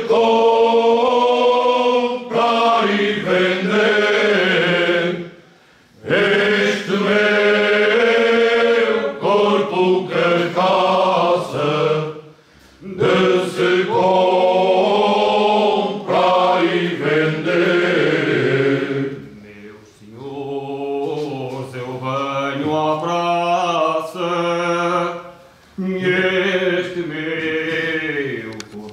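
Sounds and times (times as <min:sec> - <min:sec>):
men's choir singing unaccompanied: 0:00.0 - 0:28.9.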